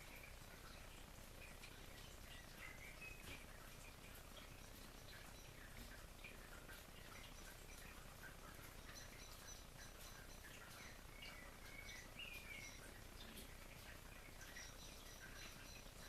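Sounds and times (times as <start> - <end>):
faint bird chirps: 0.0 - 16.0
steady background hiss: 0.0 - 16.0.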